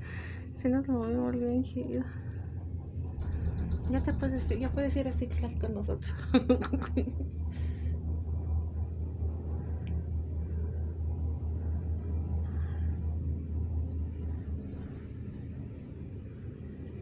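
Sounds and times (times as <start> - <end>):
low rumble inside gondola cabin: 0.0 - 17.0.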